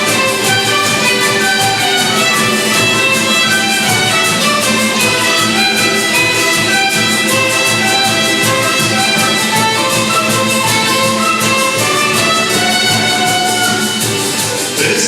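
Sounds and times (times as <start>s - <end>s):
orchestra playing: 0.0s - 15.0s
steady beat: 0.0s - 15.0s
violins: 0.0s - 15.0s.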